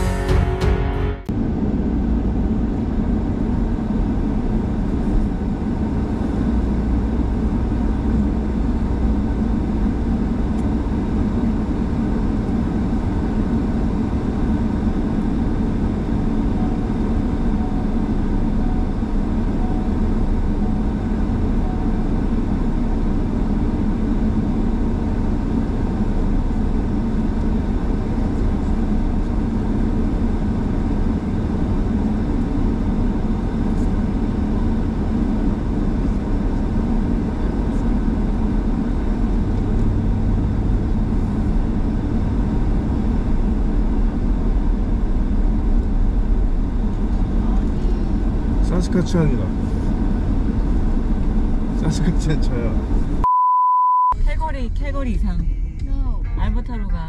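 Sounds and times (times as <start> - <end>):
engine and tyre drone: 0.0 - 53.3.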